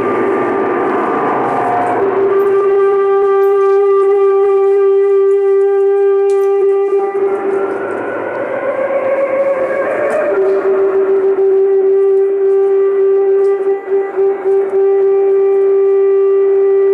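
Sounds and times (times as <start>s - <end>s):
synthesizer drone: 0.0s - 16.9s.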